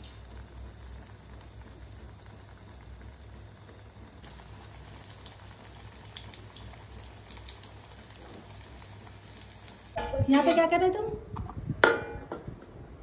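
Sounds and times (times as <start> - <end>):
food deep-frying in oil: 0.0 - 10.6.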